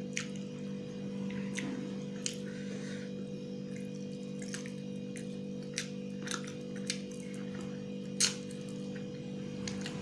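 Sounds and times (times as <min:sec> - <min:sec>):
low hum: 0:00.0 - 0:10.0
man eating wet food by hand: 0:00.0 - 0:10.0.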